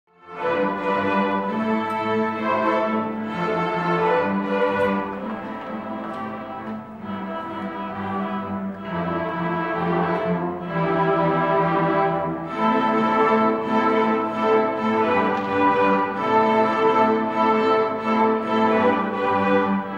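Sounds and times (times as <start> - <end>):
string orchestra bowing: 0.1 - 19.9.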